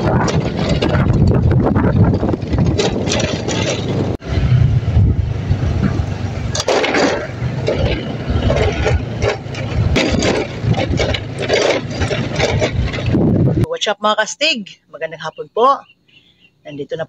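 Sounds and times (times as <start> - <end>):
motorcycle on gravel road: 0.0 - 13.7
wind rumble on microphone: 0.0 - 13.7.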